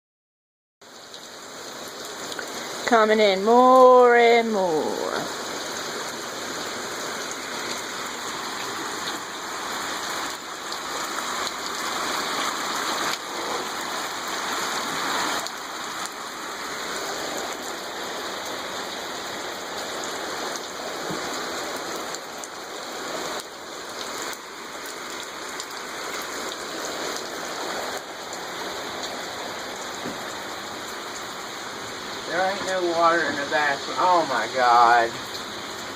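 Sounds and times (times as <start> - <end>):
falling splashing water: 0.8 - 35.9.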